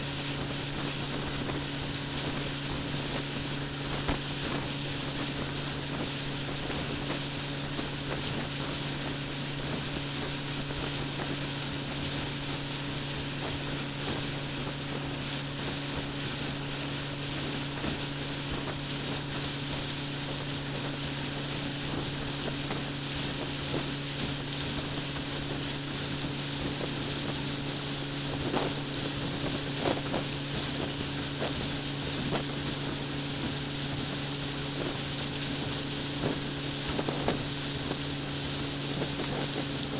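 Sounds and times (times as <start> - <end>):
boat engine droning: 0.0 - 39.9
water and wind hiss: 0.0 - 39.9.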